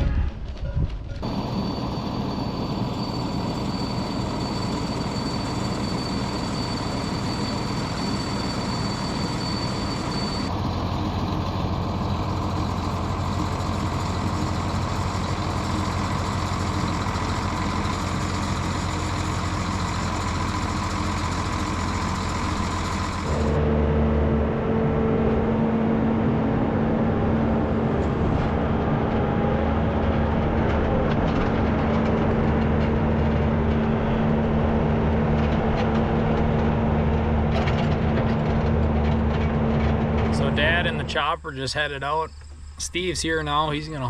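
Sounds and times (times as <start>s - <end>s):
tractor engine running: 1.2s - 44.0s.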